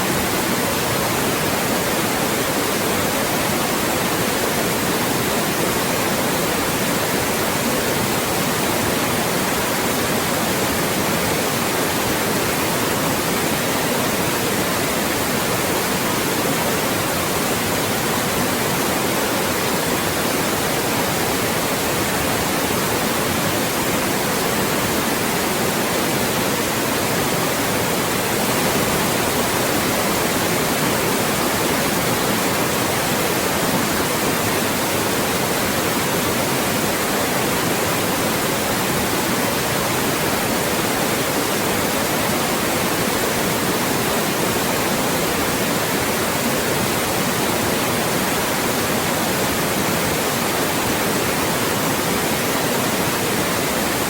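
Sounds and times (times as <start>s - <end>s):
loud steady white noise hiss: 0.0s - 54.0s.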